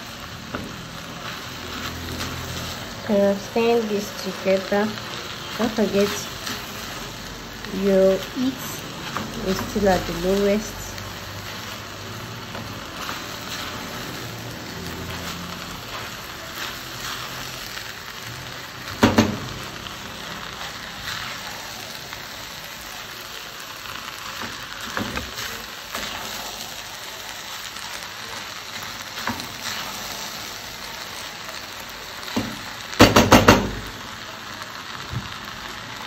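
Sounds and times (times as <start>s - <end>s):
rice and meat sizzling: 0.0s - 36.0s.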